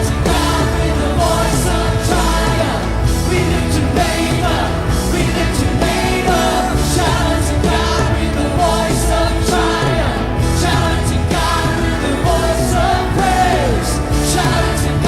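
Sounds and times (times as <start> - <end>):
band playing: 0.0 - 15.0
person singing: 0.0 - 15.0.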